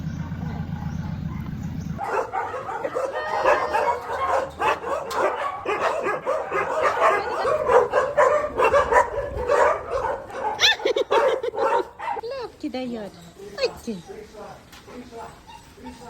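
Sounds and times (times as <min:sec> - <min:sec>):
dogs barking and whining: 0:00.0 - 0:12.6, 0:13.5 - 0:16.0.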